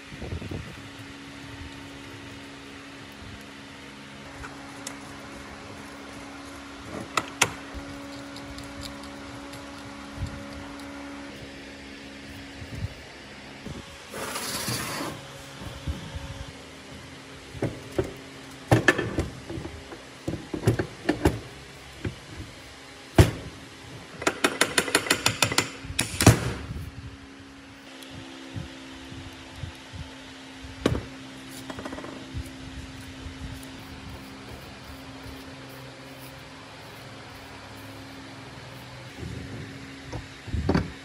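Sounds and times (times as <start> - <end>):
steady fan hum: 0.0 - 41.0.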